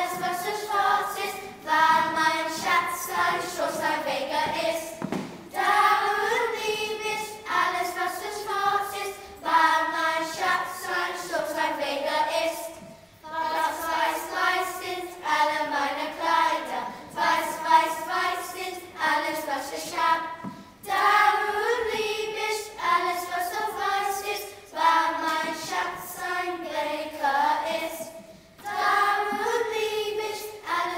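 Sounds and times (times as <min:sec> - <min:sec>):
children's choir singing: 0:00.0 - 0:30.9.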